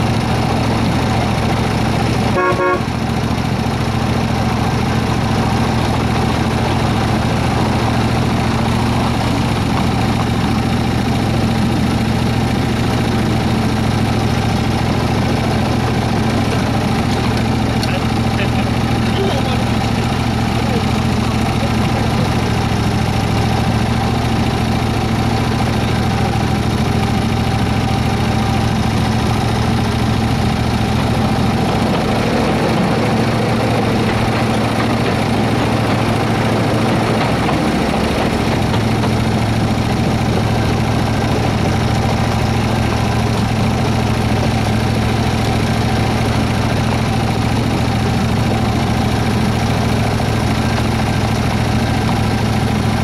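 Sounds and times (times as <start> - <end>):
miniature locomotive engine running: 0.0 - 53.0.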